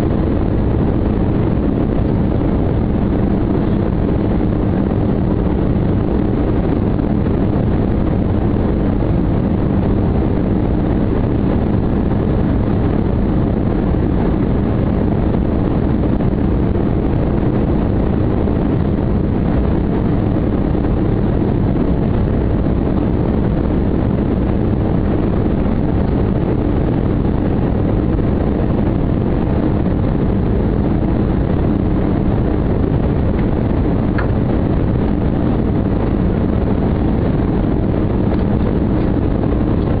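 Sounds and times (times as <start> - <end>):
aircraft engines and rushing air: 0.0 - 40.0.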